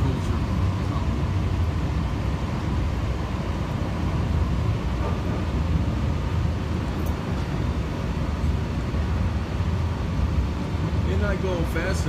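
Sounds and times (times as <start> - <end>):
light-rail car rumbling: 0.0 - 12.0.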